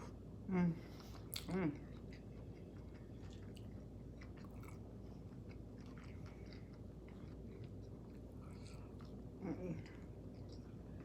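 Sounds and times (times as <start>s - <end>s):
steady low hum: 0.0s - 11.0s
person chewing food: 0.9s - 11.0s.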